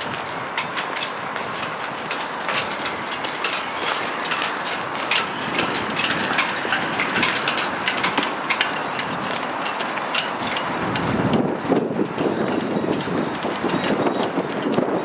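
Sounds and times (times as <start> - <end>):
rigging clinking against masts: 0.0 - 15.0.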